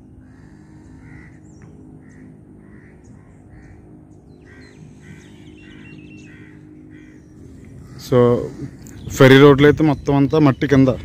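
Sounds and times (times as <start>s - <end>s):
steady low hum: 0.0s - 11.0s
crows cawing: 0.2s - 9.5s.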